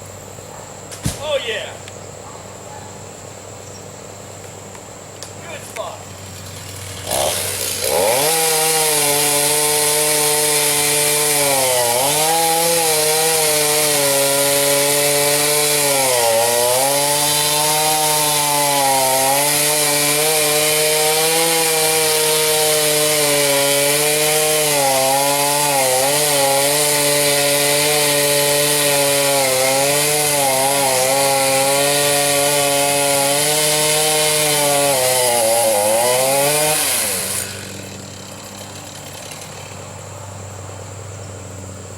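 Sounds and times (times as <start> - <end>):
chainsaw cutting wood: 0.9 - 1.7, 4.6 - 40.0.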